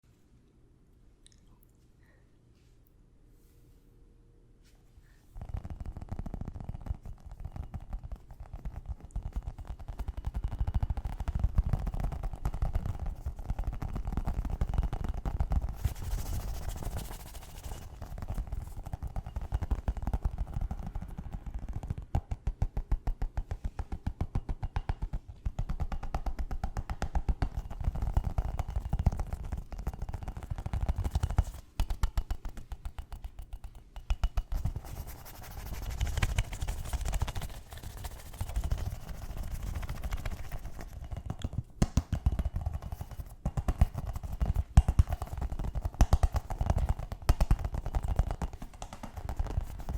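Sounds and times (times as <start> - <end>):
tapping and scratching on hard objects: 5.4 - 49.9.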